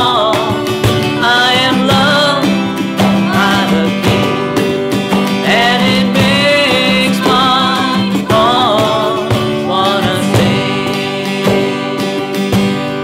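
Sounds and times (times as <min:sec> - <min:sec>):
woman singing along: 0:00.0 - 0:04.6, 0:05.3 - 0:12.4
acoustic guitar strumming: 0:00.0 - 0:13.0
man singing: 0:00.0 - 0:13.0.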